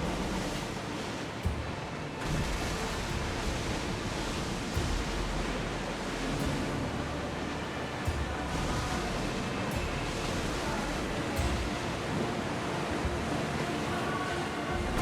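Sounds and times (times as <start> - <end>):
low rumble: 0.0 - 12.3
waves rushing: 0.0 - 15.0
wind: 0.0 - 15.0.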